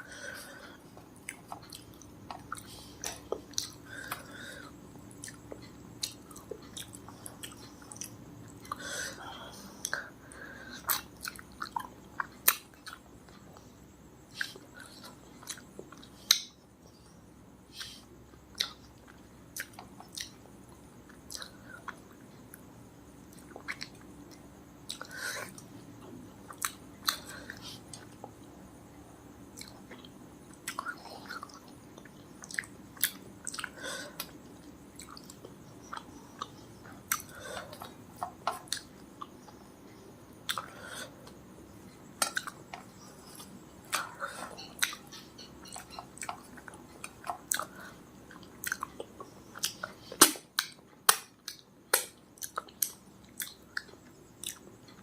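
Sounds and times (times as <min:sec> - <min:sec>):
person chewing food: 0:00.3 - 0:16.5, 0:17.8 - 0:28.6, 0:29.5 - 0:55.0.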